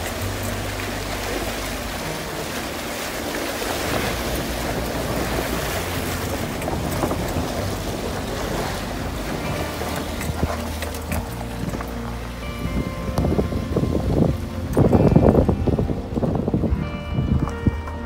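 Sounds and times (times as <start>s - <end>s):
water splashing around tyres: 0.0s - 16.3s
vehicle engine hum: 0.0s - 18.0s.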